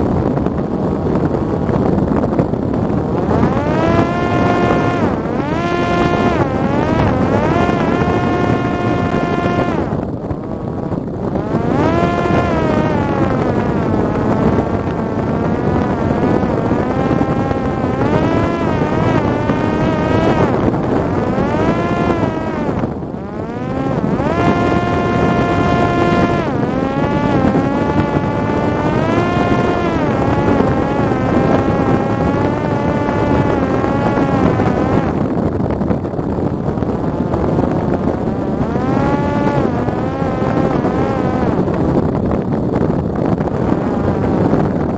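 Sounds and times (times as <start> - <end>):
drone motor and propeller whining: 0.0 - 44.9
wind noise: 0.0 - 44.9.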